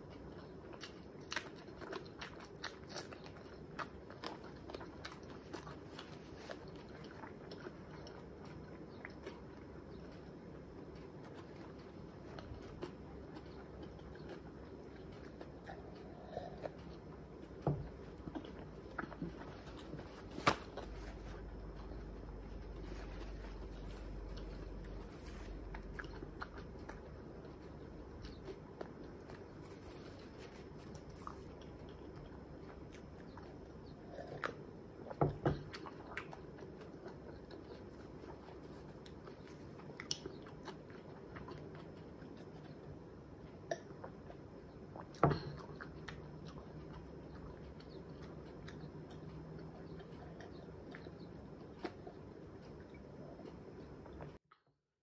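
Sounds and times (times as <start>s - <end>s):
chewing with wet mouth sounds: 0.0s - 54.4s.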